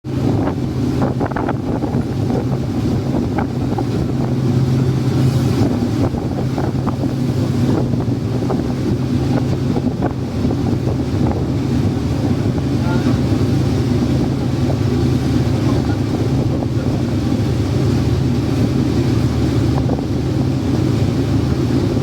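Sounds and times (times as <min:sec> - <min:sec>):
boat engine droning: 0:00.1 - 0:22.0.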